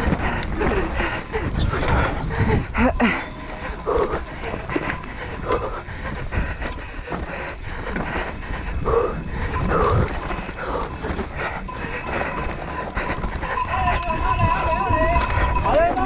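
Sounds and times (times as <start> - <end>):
bike rattling and knocking: 0.0 - 16.0
rider breathing hard: 0.0 - 16.0
tyres scrabbling on loose ground: 0.0 - 16.0.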